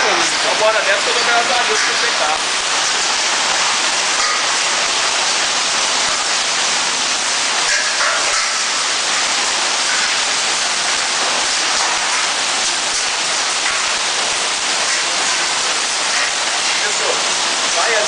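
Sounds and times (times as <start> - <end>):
hail and heavy rain: 0.0 - 18.0.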